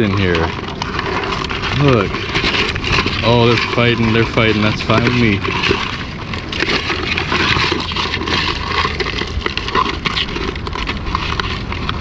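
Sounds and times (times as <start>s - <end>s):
crabs scraping and clicking: 0.0s - 12.0s
steady low rumble: 0.0s - 12.0s.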